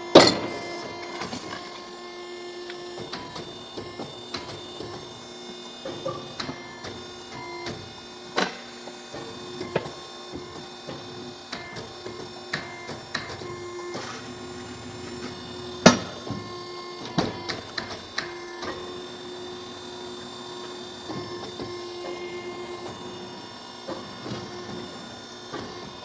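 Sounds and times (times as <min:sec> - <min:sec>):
machine motor hum: 0:00.0 - 0:26.0.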